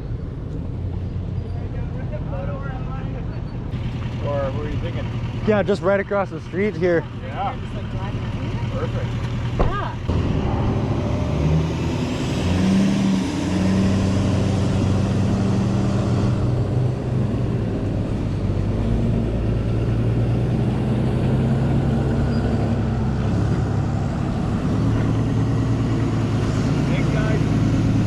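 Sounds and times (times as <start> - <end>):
engine humming at low speed: 0.0 - 28.0.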